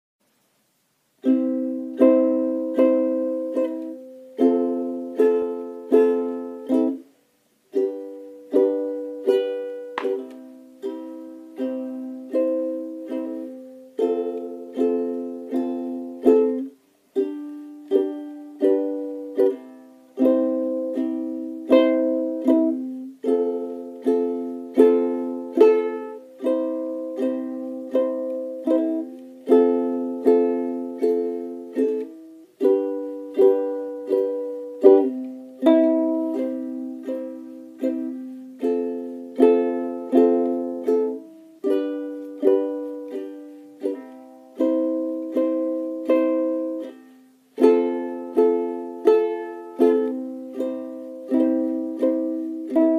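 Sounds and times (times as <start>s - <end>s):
plucked string chords: 1.2s - 7.1s, 7.7s - 52.9s.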